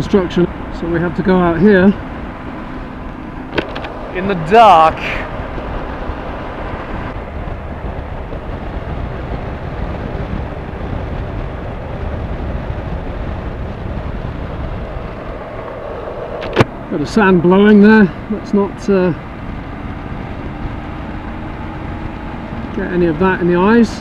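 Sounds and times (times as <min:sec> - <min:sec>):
motorcycle engine drone: 0:00.0 - 0:24.0
wind rush over microphone: 0:00.0 - 0:24.0.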